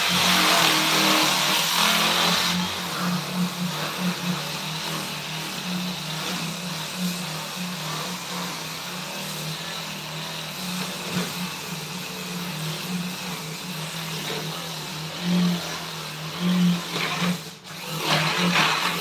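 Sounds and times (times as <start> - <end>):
electric power tool running: 0.0 - 19.0.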